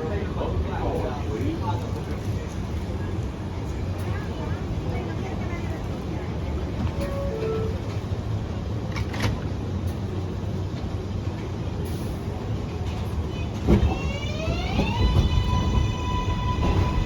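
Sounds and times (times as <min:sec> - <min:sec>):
subway train propulsion whine: 0:00.0 - 0:17.0.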